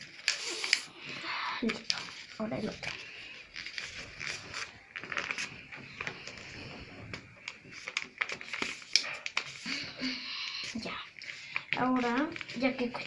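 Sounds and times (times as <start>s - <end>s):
paper rustling and creasing: 0.0s - 13.0s.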